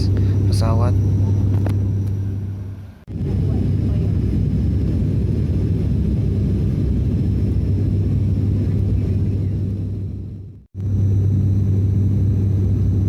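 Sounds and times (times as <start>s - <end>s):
airliner engine and airflow rumble: 0.0s - 13.0s
constant low hum: 0.0s - 13.0s.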